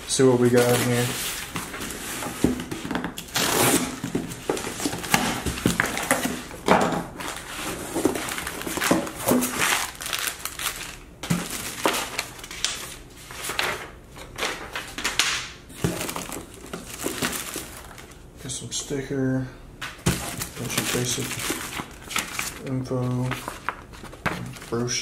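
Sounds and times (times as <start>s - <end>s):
plastic and paper rustling: 0.1s - 18.2s, 20.0s - 25.0s.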